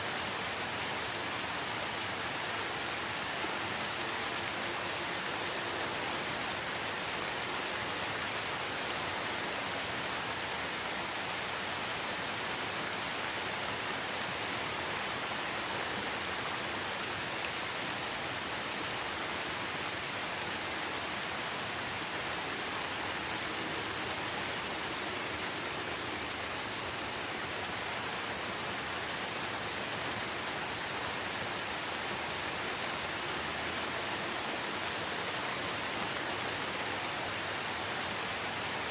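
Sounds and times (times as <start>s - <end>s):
rain falling on foliage: 0.0s - 38.9s.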